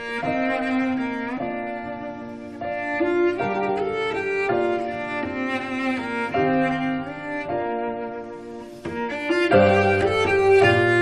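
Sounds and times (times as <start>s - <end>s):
bowed strings playing held notes: 0.0s - 11.0s.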